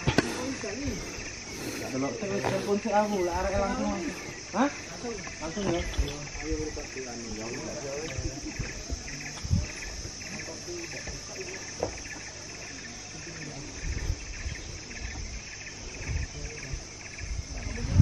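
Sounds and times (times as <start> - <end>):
insect high whine: 0.0 - 18.0
insect trilling chirp: 0.0 - 18.0.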